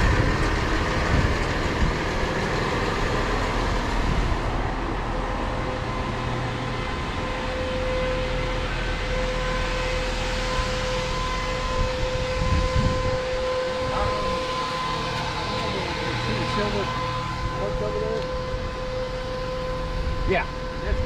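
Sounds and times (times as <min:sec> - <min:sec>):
motorhome engine idling: 0:00.0 - 0:12.4, 0:13.3 - 0:21.0
steady high-pitched whine: 0:00.0 - 0:21.0.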